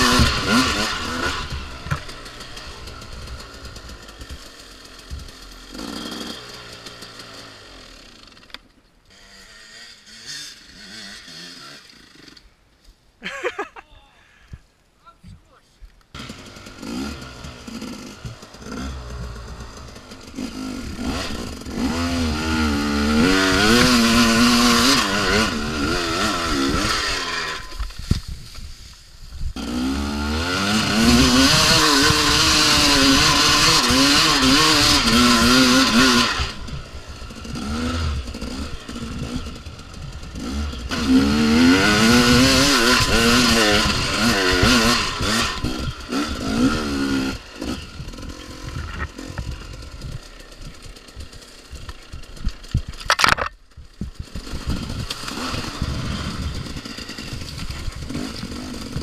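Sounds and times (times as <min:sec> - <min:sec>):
dirt bike engine revving: 0:00.0 - 0:08.5, 0:09.1 - 0:12.5, 0:16.1 - 0:28.1, 0:29.5 - 0:53.2, 0:53.8 - 0:59.0.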